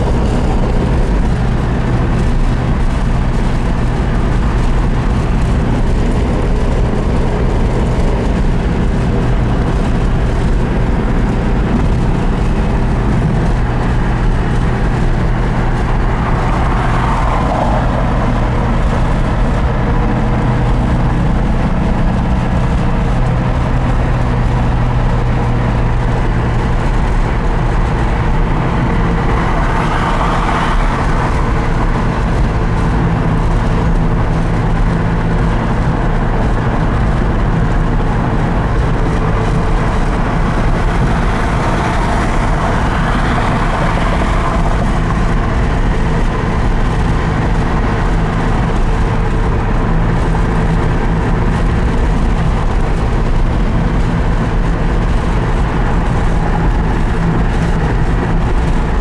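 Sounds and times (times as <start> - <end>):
car engine cruising: 0.0 - 59.0
road noise: 0.0 - 59.0.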